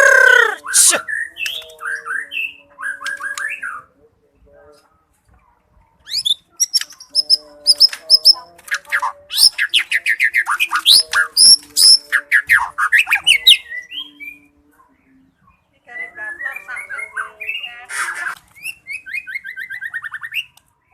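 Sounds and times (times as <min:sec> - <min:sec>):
bird singing: 0:00.0 - 0:04.1, 0:06.0 - 0:17.8, 0:18.5 - 0:20.9.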